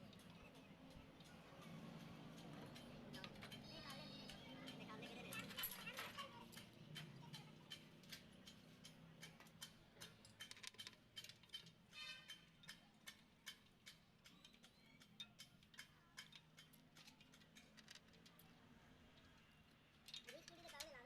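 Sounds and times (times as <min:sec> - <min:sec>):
hand tools tapping on metal: 0:00.0 - 0:21.0.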